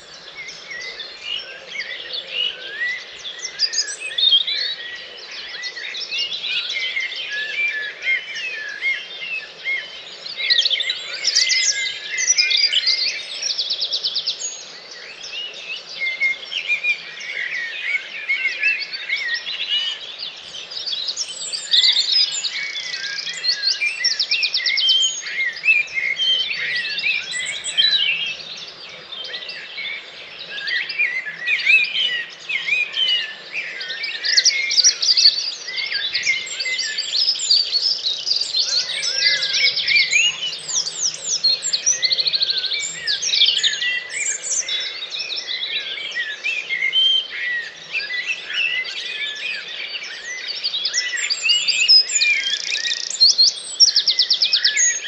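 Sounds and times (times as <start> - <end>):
many birds singing: 0.0 - 55.0.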